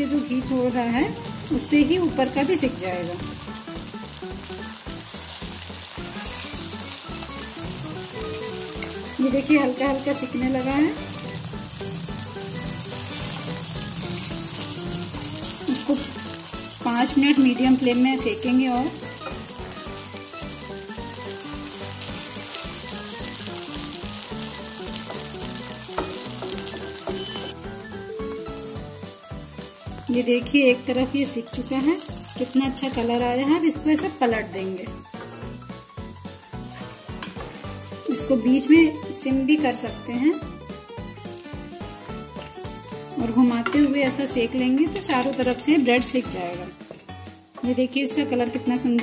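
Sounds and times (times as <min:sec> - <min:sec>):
bread sizzling on a hot griddle: 0:00.0 - 0:43.7
background music: 0:00.0 - 0:49.0.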